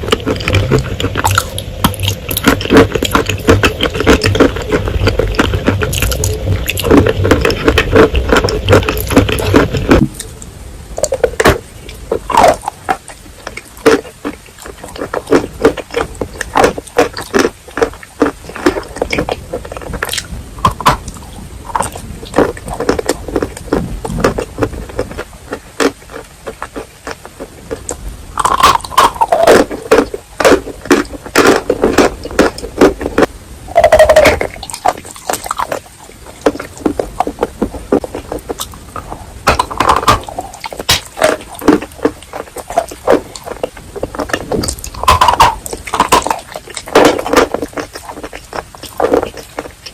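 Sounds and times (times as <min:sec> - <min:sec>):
chewing chalk crunches: 0:00.0 - 0:10.3, 0:11.0 - 0:49.9.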